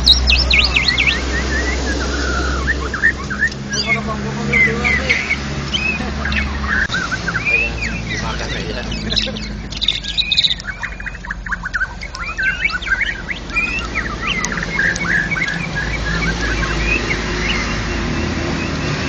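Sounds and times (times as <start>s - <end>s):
bird singing varied chirps and whistles: 0.0s - 19.0s.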